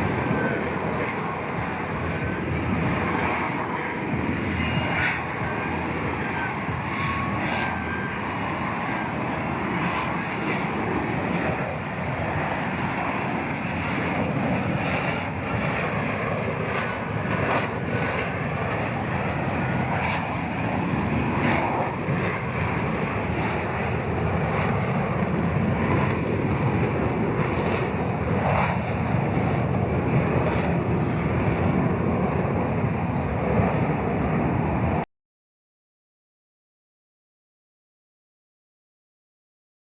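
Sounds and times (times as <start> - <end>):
jet engine roaring: 0.0 - 35.0.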